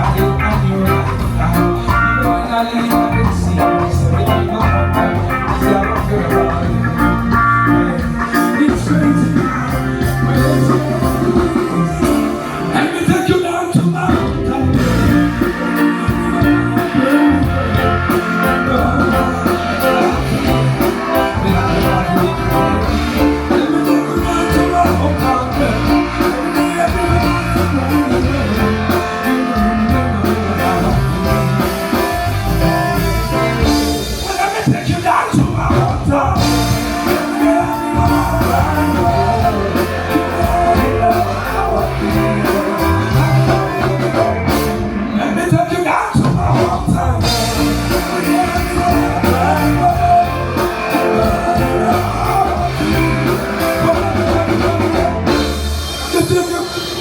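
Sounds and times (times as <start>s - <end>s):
band music playing: 0.0s - 57.0s
guitar: 0.0s - 57.0s
person singing: 0.0s - 57.0s.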